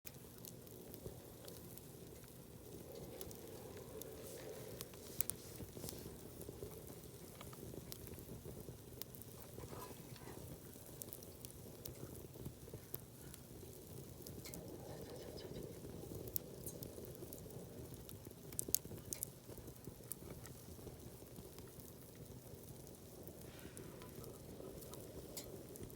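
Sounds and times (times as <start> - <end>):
campfire crackling and popping: 0.1 - 25.9
fire low hiss: 0.1 - 25.9.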